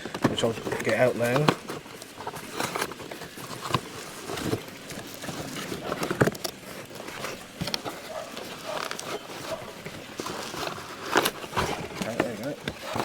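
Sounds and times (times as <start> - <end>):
bubble wrap crinkling: 0.0 - 13.0
cardboard box rustling: 0.0 - 13.0.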